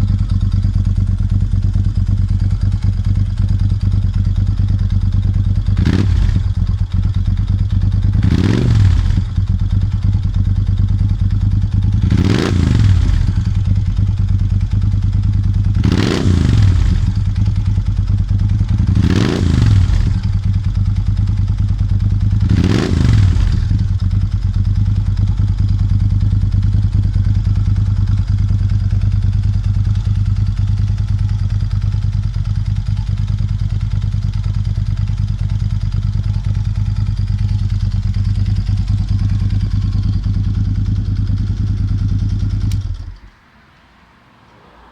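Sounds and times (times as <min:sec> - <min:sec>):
motorcycle engine idling and revving: 0:00.0 - 0:43.5.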